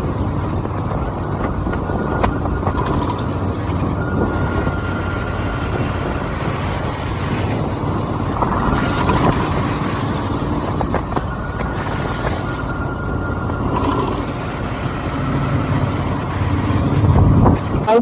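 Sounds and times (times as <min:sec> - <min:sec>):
motorcycle engine rumble: 0:00.0 - 0:18.0
wind on microphone: 0:00.0 - 0:18.0.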